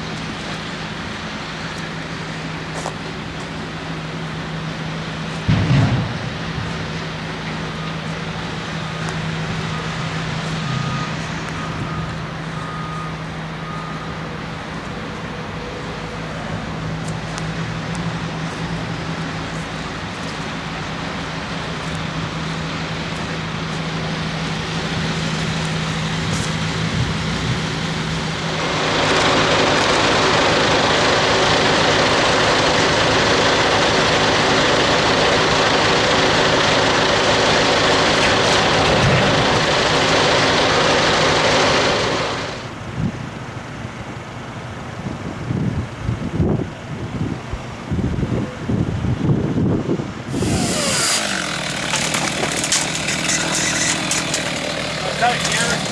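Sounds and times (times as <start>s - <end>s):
heavy engine running: 0.0s - 55.9s.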